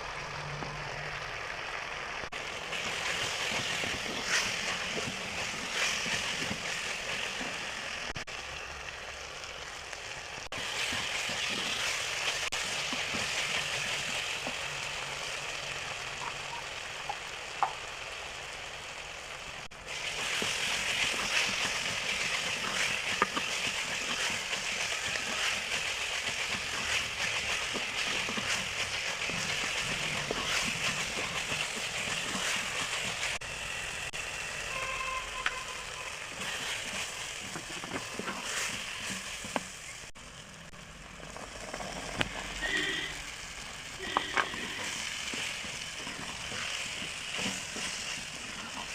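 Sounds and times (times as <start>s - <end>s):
food sizzling in oil: 0.0s - 48.9s.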